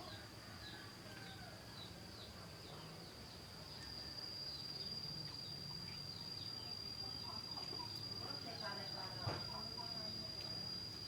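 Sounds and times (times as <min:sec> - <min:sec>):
high insect trill: 0:00.0 - 0:11.0
small birds chirping: 0:00.0 - 0:11.0.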